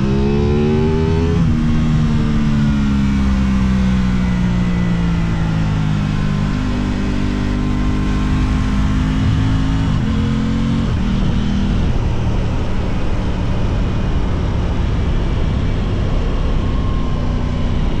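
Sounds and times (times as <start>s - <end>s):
motorcycle engine running: 0.0s - 18.0s
wind and road rush: 0.0s - 18.0s.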